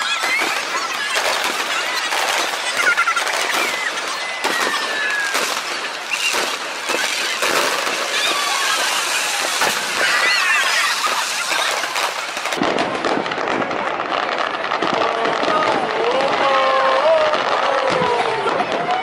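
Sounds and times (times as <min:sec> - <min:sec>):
fireworks bangs and pops: 0:00.0 - 0:19.0
fireworks crackling: 0:00.0 - 0:19.0.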